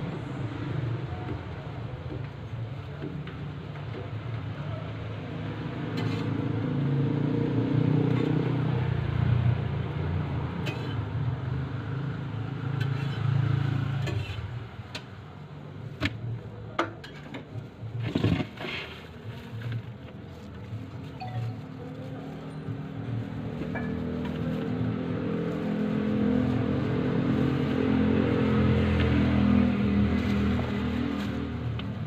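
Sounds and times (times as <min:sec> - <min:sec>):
low traffic rumble: 0:00.0 - 0:32.0.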